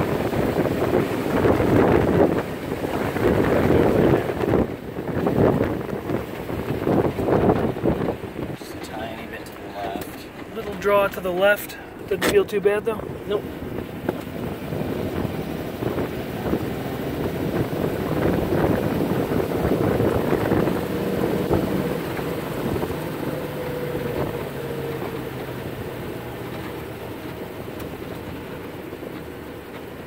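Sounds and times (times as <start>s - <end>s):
car engine running: 0.0s - 30.0s
wind and road noise: 0.0s - 30.0s.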